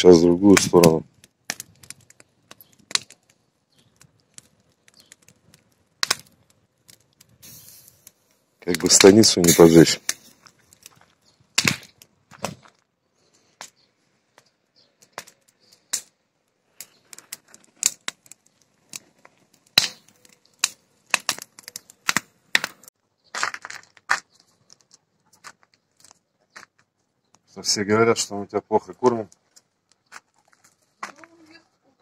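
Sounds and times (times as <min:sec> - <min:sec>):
sharp snaps of burning branches: 0:00.0 - 0:27.6, 0:28.7 - 0:31.8
fire crackling: 0:00.0 - 0:32.0.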